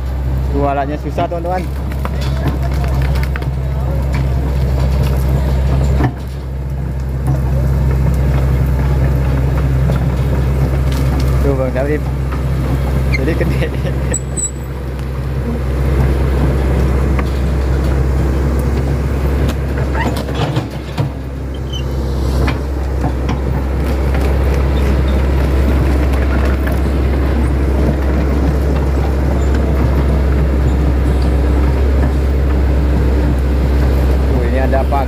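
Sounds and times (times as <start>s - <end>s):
engine humming: 0.0s - 35.0s.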